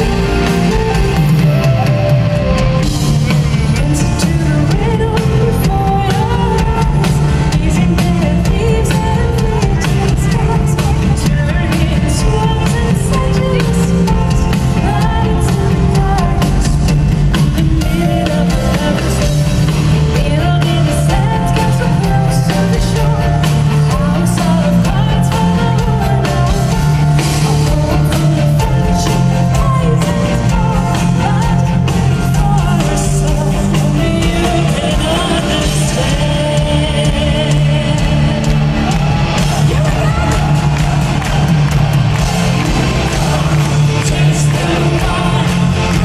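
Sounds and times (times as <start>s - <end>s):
woman singing: 0.0s - 39.0s, 43.3s - 46.0s
metal band playing live: 0.0s - 46.0s.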